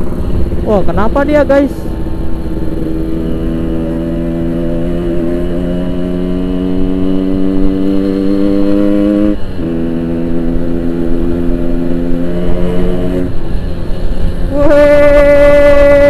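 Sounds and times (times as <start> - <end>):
two-stroke motorcycle riding: 0.0 - 16.0.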